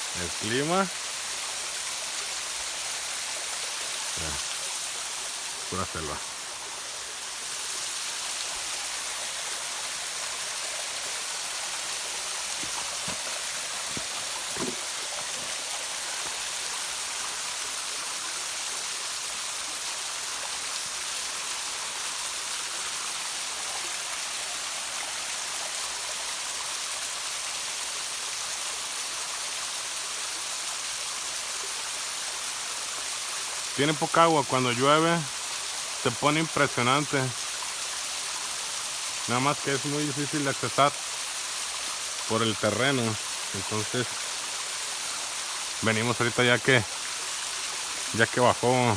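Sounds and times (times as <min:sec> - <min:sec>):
small waterfall rushing: 0:00.0 - 0:48.9.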